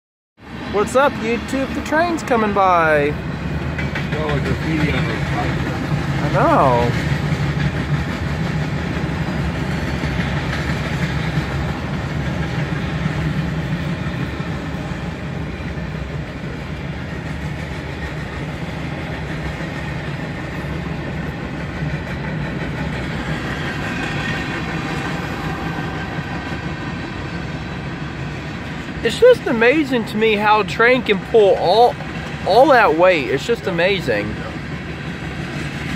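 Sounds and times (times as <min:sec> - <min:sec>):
freight train rolling on rails: 0:00.4 - 0:35.9.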